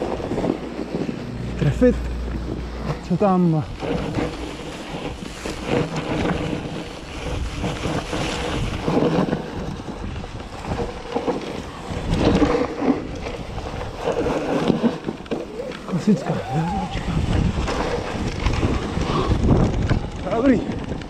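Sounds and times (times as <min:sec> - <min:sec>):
bike knocking and rattling: 0:00.0 - 0:21.0
bike tyres on snow: 0:00.0 - 0:21.0
wind buffeting microphone: 0:00.0 - 0:21.0.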